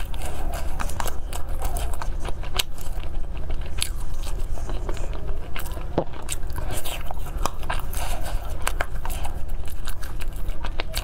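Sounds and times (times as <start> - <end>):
close chewing: 0.0 - 11.0
steady low hum: 0.0 - 11.0.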